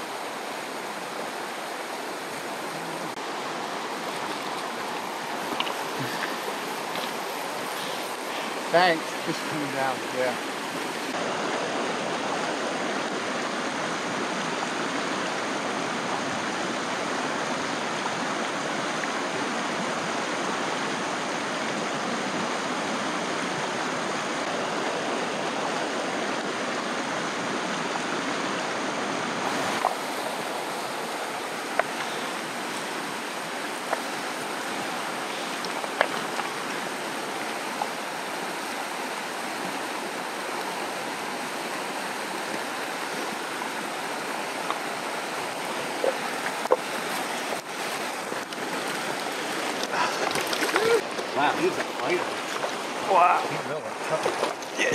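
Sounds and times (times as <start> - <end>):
river rapids rushing over rocks: 0.0 - 54.9.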